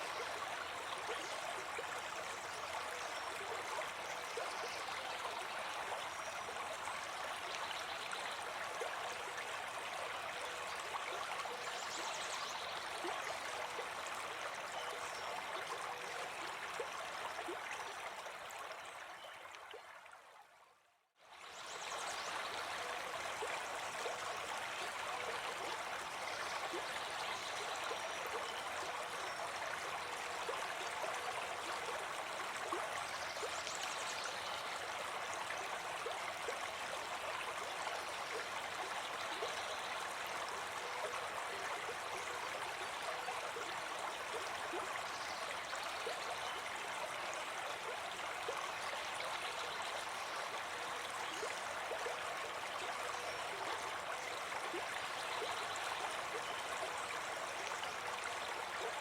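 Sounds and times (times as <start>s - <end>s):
brook babbling: 0.0s - 59.0s.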